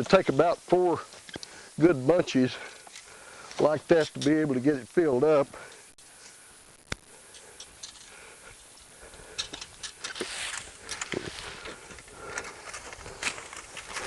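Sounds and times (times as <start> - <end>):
dry pine needles crackling: 0.0 - 14.0.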